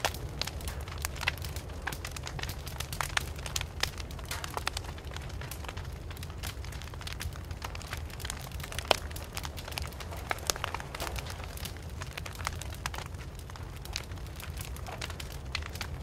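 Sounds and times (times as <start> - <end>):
low rumble of burning: 0.0 - 16.0
wood fire crackling and popping: 0.0 - 16.0.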